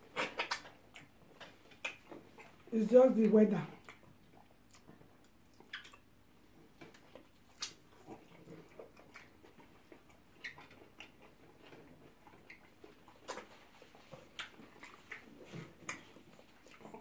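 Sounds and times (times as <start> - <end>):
people chewing and lip-smacking: 0.0 - 2.7, 3.7 - 17.0.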